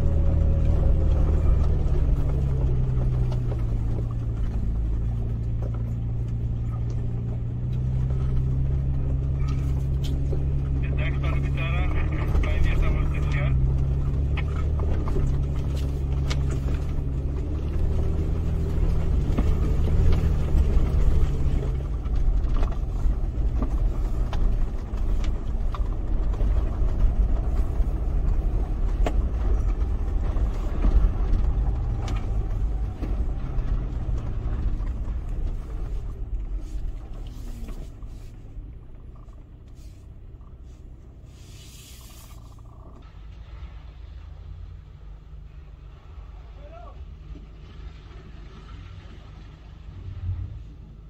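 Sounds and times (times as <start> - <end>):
knocks over rough dirt track: 0.0 - 41.3
car engine low rumble: 0.0 - 51.0.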